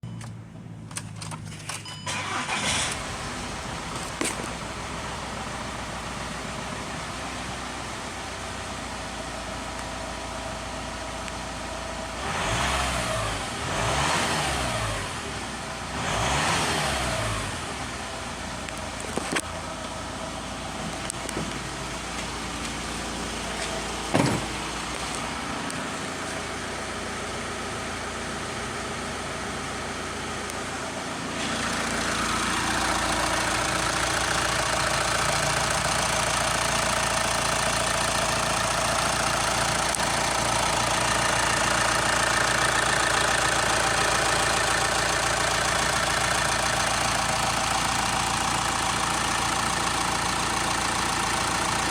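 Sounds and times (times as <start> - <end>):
van engine revving and idling: 2.2 - 51.9.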